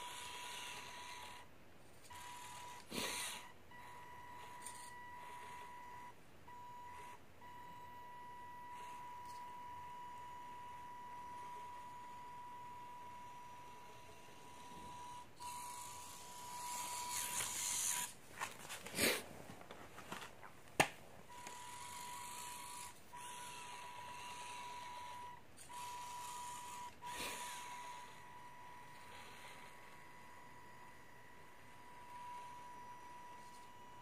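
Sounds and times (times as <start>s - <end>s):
electric motor whine: 0.0s - 18.2s, 21.3s - 34.0s.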